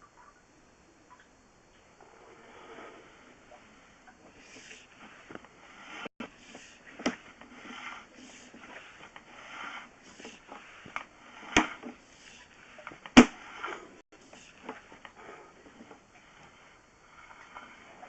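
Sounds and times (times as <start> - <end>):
cable scraping inside pipe: 2.0 - 18.0.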